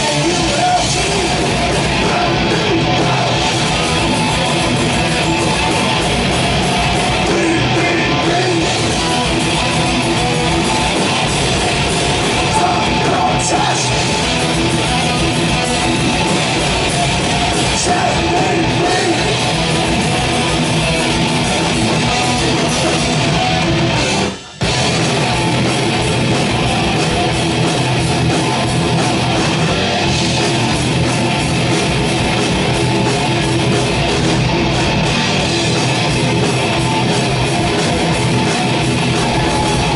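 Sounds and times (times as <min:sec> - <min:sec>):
thrash metal band playing: 0:00.0 - 0:39.9.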